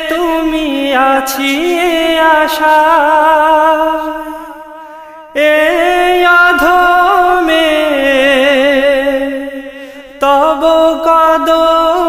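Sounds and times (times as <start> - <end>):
person singing wordless melody: 0.0 - 12.0.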